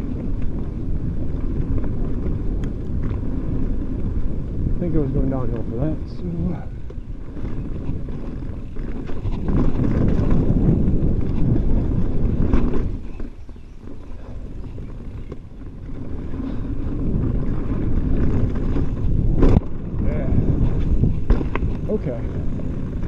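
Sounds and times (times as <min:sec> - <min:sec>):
bike rattling over rock: 0:00.0 - 0:23.0
bike tyre rumble: 0:00.0 - 0:23.0
wind noise on microphone: 0:00.0 - 0:23.0.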